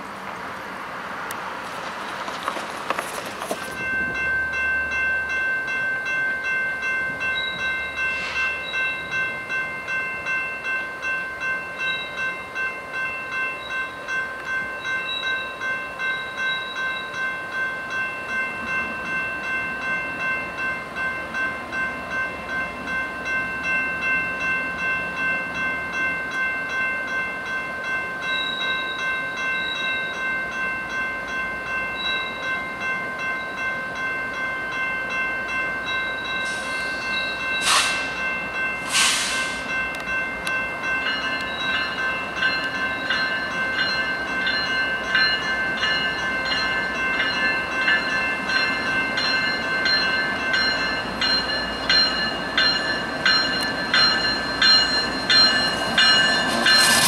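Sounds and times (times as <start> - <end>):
faint train rumble: 0.0 - 57.0
railroad crossing bell ringing: 0.0 - 57.0.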